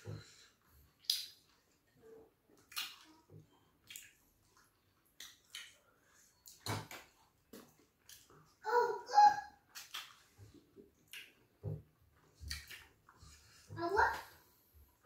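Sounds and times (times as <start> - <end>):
wet eating squelches: 0.0 - 15.0.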